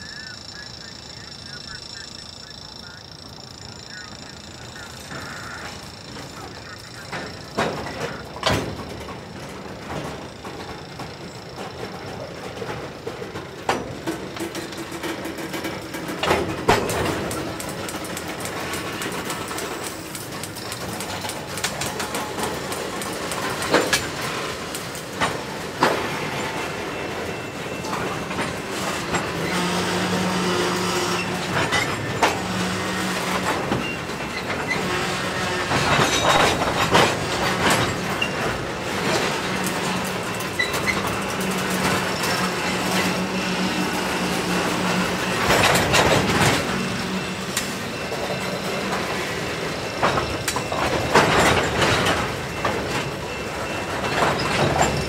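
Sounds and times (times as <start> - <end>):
freight train rumbling past: 0.0 - 55.0
train wheels clicking and knocking: 0.0 - 55.0.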